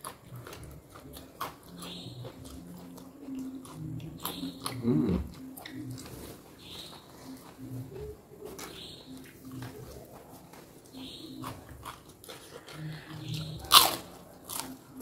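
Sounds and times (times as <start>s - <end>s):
biting and chewing food: 0.0s - 15.0s.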